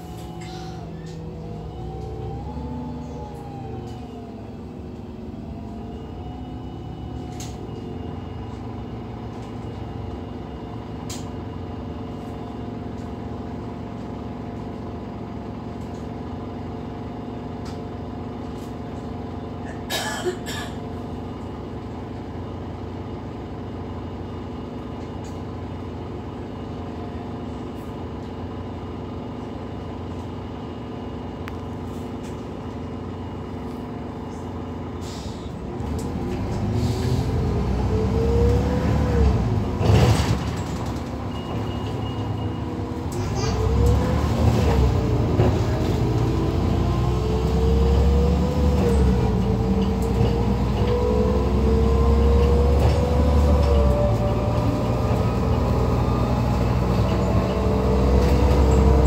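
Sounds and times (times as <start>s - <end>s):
bus engine accelerating: 0.0s - 59.0s
bus engine idling: 0.0s - 59.0s.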